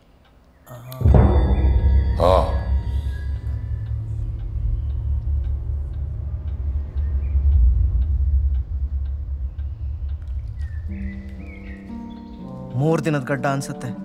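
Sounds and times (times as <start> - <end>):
faint regular ticking: 0.0 - 13.6
deep rumbling drone: 0.9 - 12.8.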